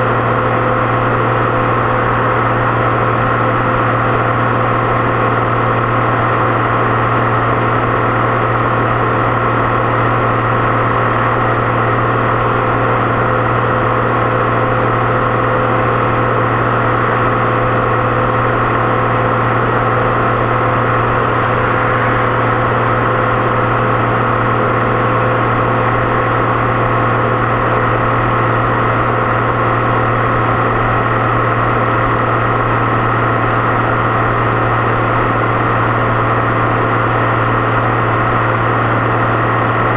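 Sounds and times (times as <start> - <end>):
high turbo whine: 0.0 - 39.9
tractor engine humming: 0.0 - 39.9.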